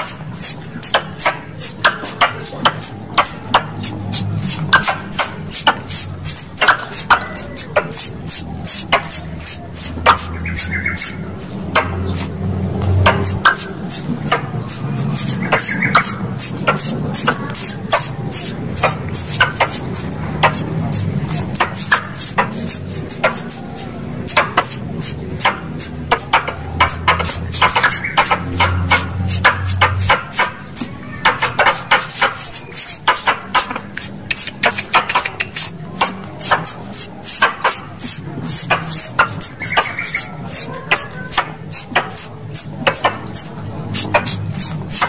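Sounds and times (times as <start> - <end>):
sharp clicks: 0.0 - 45.0
squirrel chirps: 0.0 - 45.0.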